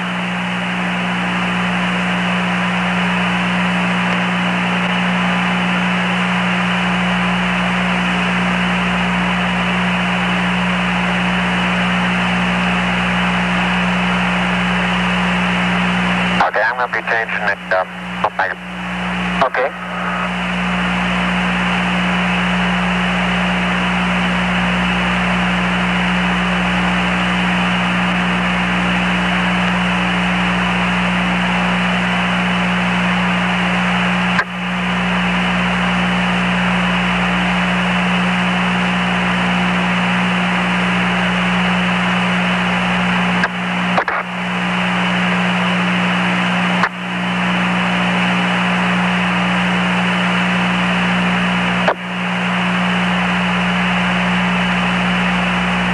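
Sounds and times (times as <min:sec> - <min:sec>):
radio static hiss: 0:00.0 - 0:55.9.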